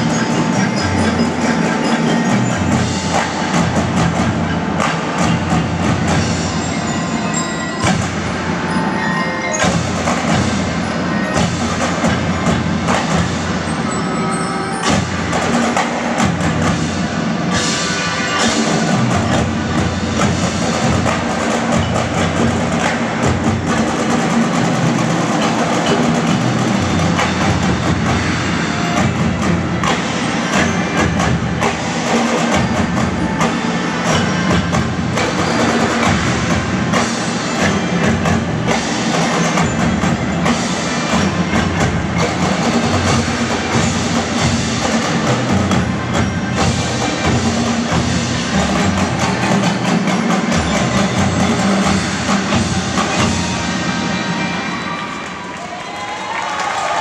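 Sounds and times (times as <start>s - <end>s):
marching drums beating: 0.0s - 14.0s, 14.8s - 57.0s
marching band playing: 0.0s - 57.0s.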